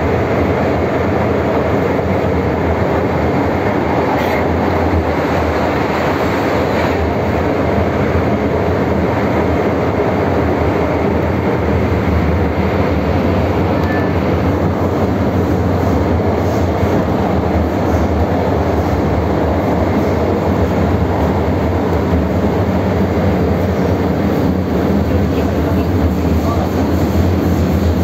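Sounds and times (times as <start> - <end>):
train running in tunnel: 0.0 - 28.0.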